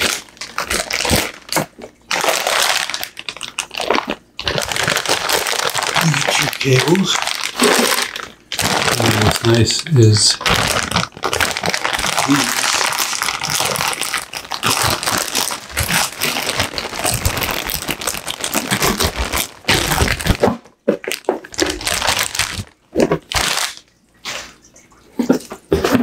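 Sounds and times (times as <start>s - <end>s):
plastic bag crinkling: 0.0s - 24.4s.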